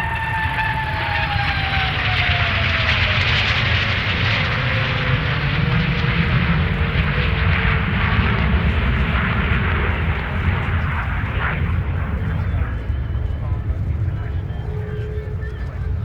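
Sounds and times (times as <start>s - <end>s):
jets roaring past: 0.0s - 12.8s.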